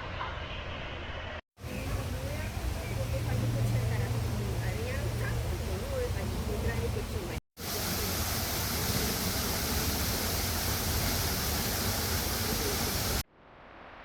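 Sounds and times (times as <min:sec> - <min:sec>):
fountain water splashing: 0:01.6 - 0:13.2.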